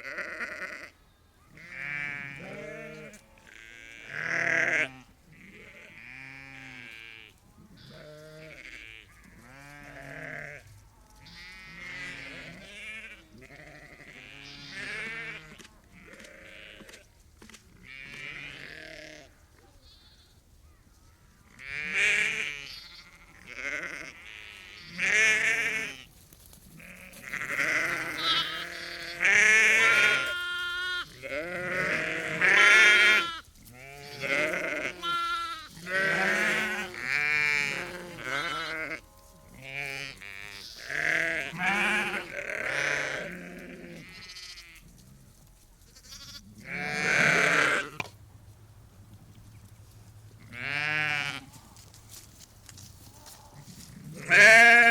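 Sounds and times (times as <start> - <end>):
sheep bleating: 0.0 - 1.0, 1.6 - 10.6, 11.2 - 17.0, 17.8 - 20.4, 21.5 - 26.1, 26.8 - 44.8, 45.9 - 48.0, 50.5 - 51.5, 53.2 - 54.9.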